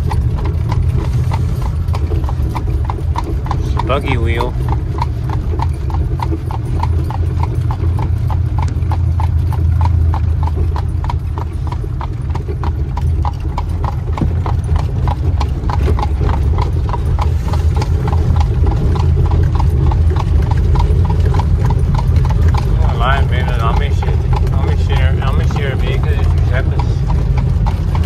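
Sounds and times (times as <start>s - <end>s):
buggy wheels rumbling: 0.0s - 28.0s
horse hooves on asphalt: 0.0s - 28.0s.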